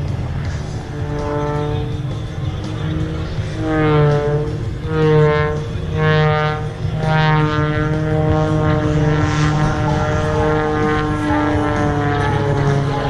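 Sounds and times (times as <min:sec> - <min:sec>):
propeller engine running hard: 0:00.0 - 0:13.0.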